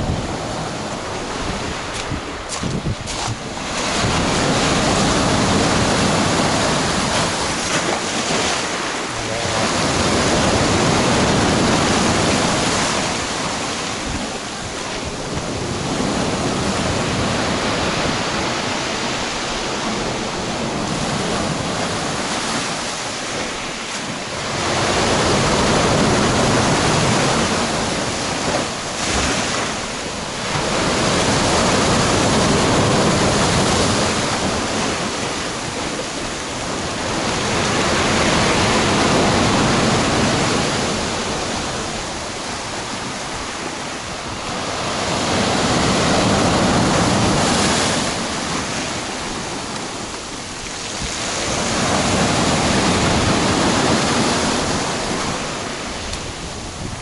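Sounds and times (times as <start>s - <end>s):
storm waves breaking on shore: 0.0s - 57.0s.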